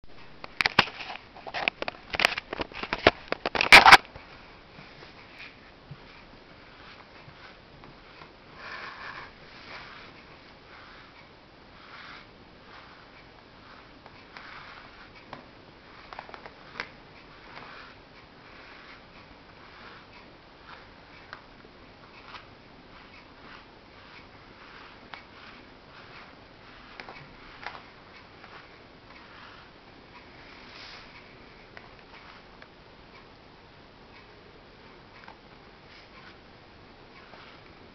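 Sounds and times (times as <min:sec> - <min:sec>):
rustling of cat being combed: 0:00.2 - 0:33.4, 0:34.1 - 0:37.9.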